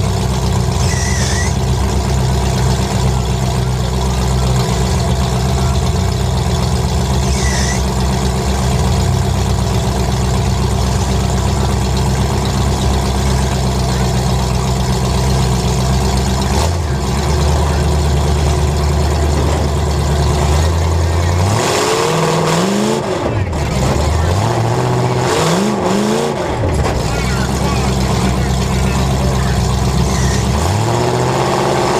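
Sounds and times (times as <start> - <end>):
car engines idling: 0.0 - 31.9.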